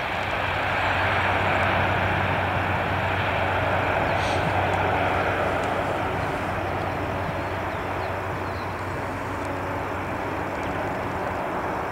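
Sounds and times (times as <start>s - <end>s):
aircraft propellers droning: 0.0s - 11.9s.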